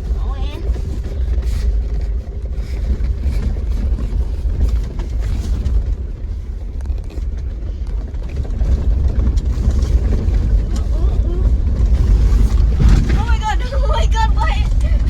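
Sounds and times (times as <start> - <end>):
knocks and rattles from bumps: 0.0 - 15.0
vehicle rumble from inside cab: 0.0 - 15.0.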